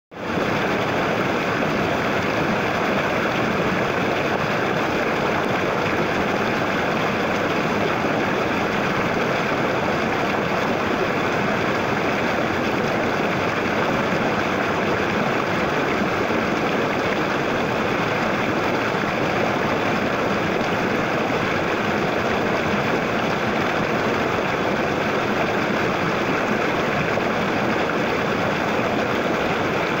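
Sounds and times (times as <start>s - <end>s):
stream flowing over stones: 0.2s - 30.0s.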